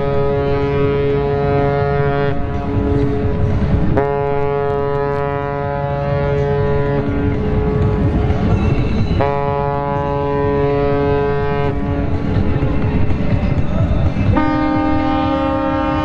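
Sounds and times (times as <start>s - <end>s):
fainter lower horn: 0.0s - 8.0s, 9.2s - 12.3s, 14.3s - 16.0s
ship's horn blasts: 0.0s - 12.8s, 14.3s - 16.0s.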